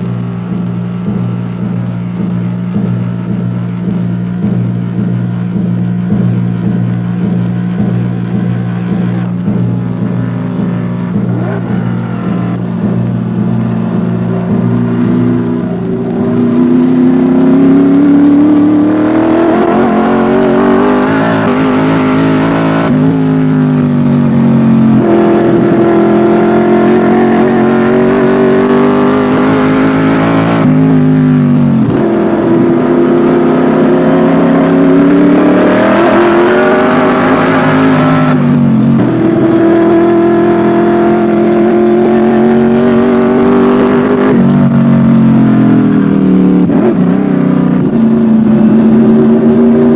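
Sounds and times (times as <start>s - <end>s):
racing car engine at full throttle: 0.0s - 49.9s.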